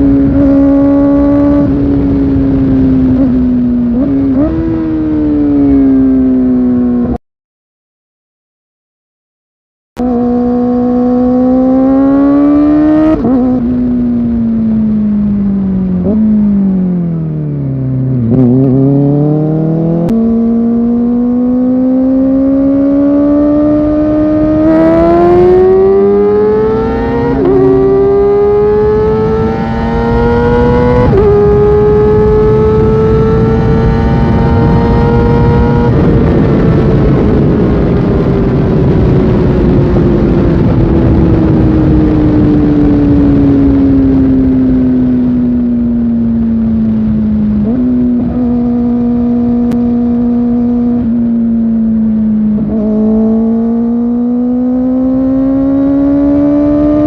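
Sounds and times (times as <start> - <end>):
motorcycle engine revving: 0.0 - 7.2, 10.0 - 57.0
rushing wind noise: 0.0 - 7.2, 17.8 - 57.0.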